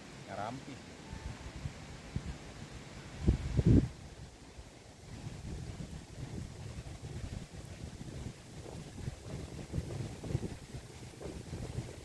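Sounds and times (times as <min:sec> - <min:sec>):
faint steady hiss: 0:00.0 - 0:12.0
wind buffeting microphone: 0:01.1 - 0:12.0.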